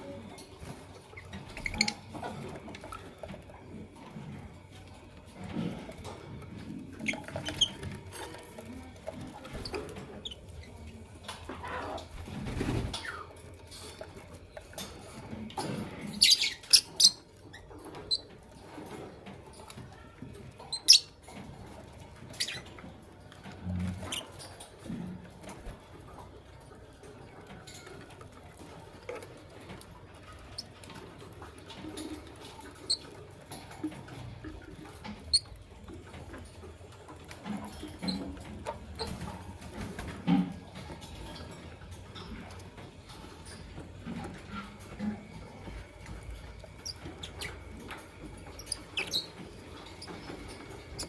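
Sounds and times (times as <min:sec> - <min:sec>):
birds clicking and scratching: 0:00.0 - 0:51.0.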